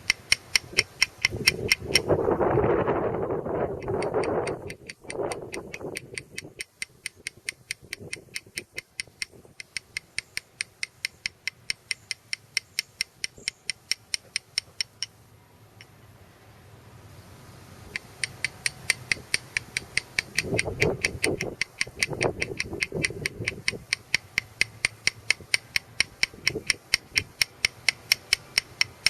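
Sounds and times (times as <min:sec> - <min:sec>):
hammer tapping on stone chisel: 0:00.0 - 0:02.1, 0:03.8 - 0:15.1, 0:17.9 - 0:29.0.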